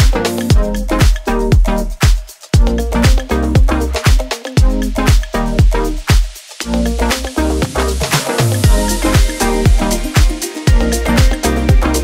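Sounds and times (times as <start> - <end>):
upbeat electronic dance music: 0.0 - 12.0.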